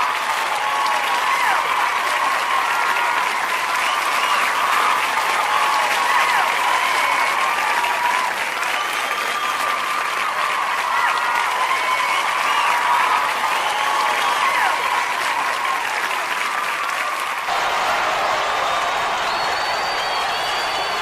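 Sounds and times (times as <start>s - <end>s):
audience applauding: 0.0s - 21.0s
voices calling and cheering: 0.0s - 21.0s.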